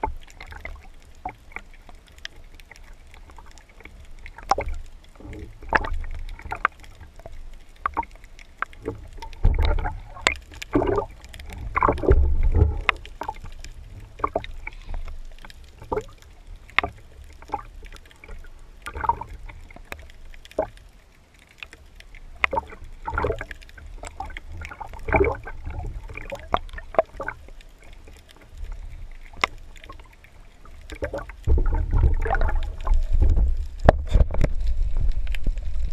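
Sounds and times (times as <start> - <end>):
underwater water sloshing: 0.0 - 35.9.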